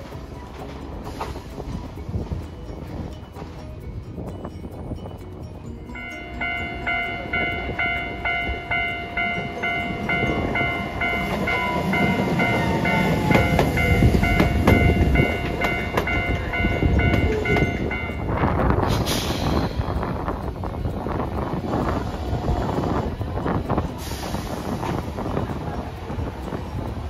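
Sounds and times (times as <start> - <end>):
level crossing warning bell: 0.0 - 24.4
tram rumbling past: 0.0 - 27.0.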